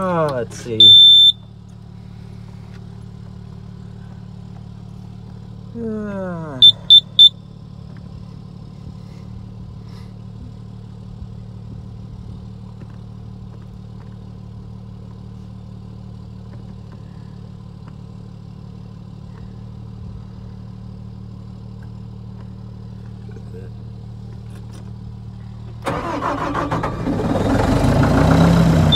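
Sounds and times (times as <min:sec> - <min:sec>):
engine idling: 0:00.0 - 0:28.9.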